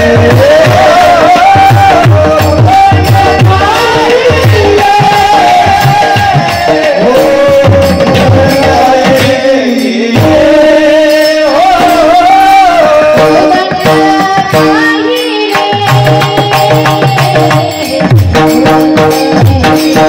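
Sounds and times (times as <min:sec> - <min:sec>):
women singing: 0:00.0 - 0:20.0.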